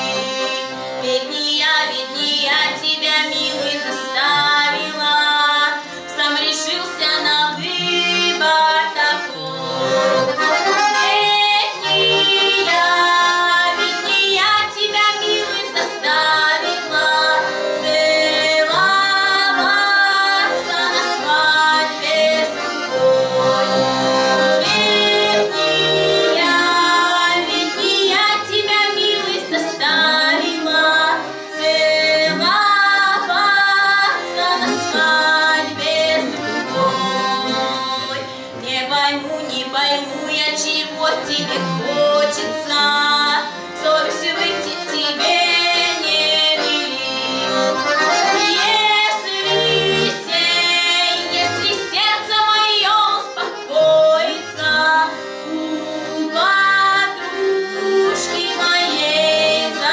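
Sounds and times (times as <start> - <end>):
woman singing folk song: 0.0 - 24.0, 24.6 - 47.5, 48.2 - 59.9
instrumental accompaniment: 0.0 - 59.9.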